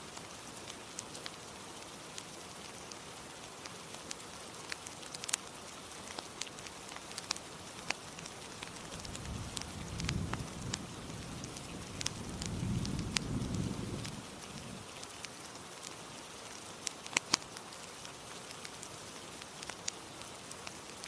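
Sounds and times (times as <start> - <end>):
rain hissing: 0.0 - 21.0
wood fire crackling: 0.0 - 21.0.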